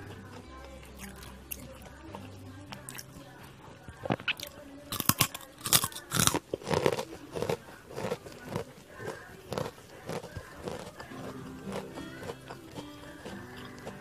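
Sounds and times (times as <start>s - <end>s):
crunchy chewing: 0.0s - 14.0s
snack crunching: 0.0s - 14.0s.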